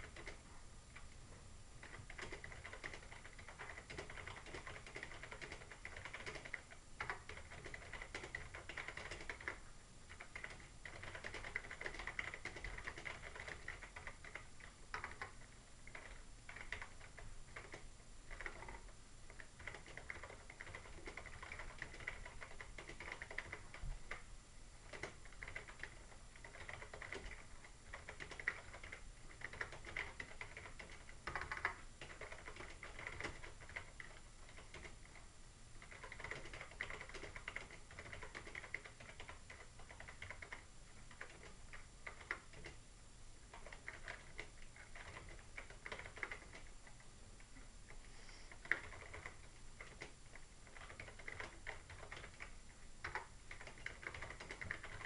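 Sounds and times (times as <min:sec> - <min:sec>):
keyboard typing clicks: 0:00.0 - 0:01.2, 0:01.8 - 0:24.2, 0:24.8 - 0:35.2, 0:35.8 - 0:42.8, 0:43.5 - 0:55.0.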